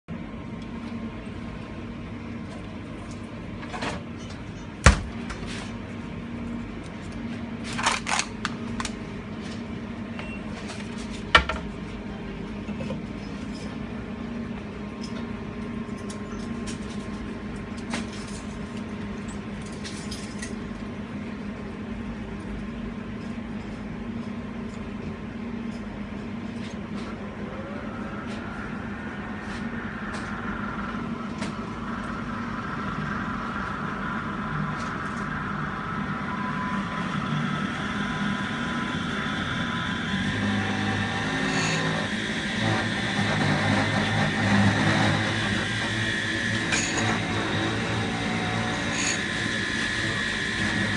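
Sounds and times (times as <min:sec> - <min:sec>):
vending machine humming: 0:00.1 - 0:50.9.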